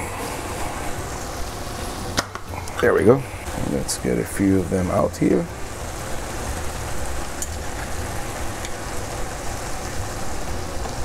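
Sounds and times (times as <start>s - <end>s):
low steady hum: 0.0s - 11.0s
vegetables sizzling in a skillet: 0.0s - 11.0s.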